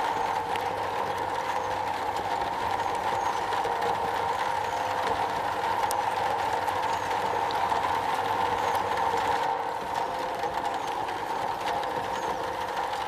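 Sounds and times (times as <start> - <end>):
rain on a metal roof: 0.0 - 13.0.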